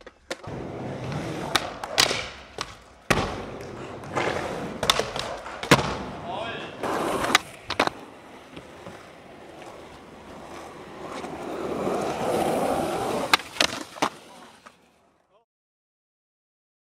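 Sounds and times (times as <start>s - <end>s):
skateboard popping and landing: 0.0s - 15.1s
skateboard wheels rolling on pavement: 0.0s - 15.2s.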